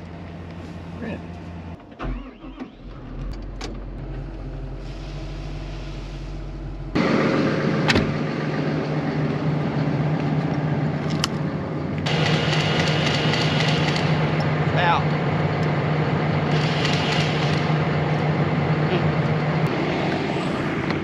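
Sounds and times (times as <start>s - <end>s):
heavy equipment engine running: 0.0s - 21.0s.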